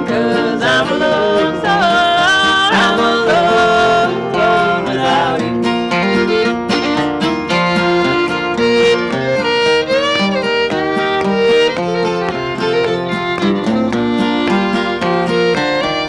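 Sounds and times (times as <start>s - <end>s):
acoustic guitar: 0.0s - 16.0s
fiddle melody: 0.0s - 16.0s.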